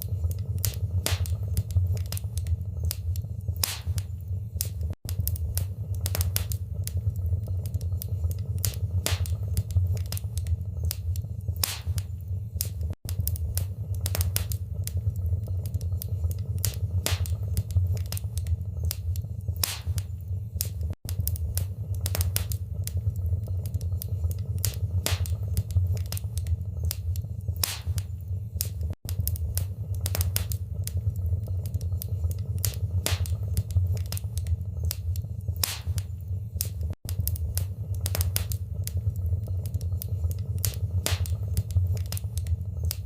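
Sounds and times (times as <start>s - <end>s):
low rumble of flames: 0.0s - 43.0s
sharp pops and snaps: 0.0s - 43.0s
wood fire crackling: 0.0s - 43.0s.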